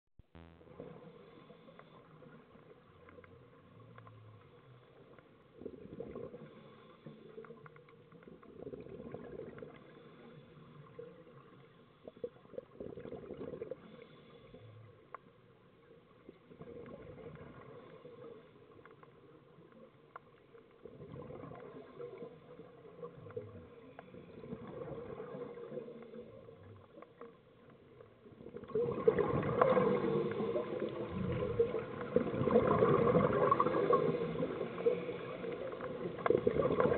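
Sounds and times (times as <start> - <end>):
exhaled bubbles gurgling underwater: 0.8 - 14.9, 16.1 - 36.9.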